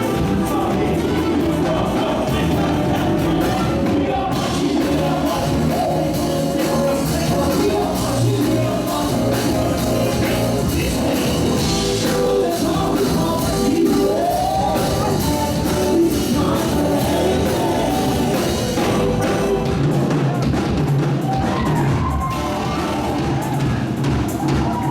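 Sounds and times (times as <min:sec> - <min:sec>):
people singing: 0:00.0 - 0:20.5
drum kit: 0:00.0 - 0:24.9
rock-style gospel band: 0:00.0 - 0:24.9.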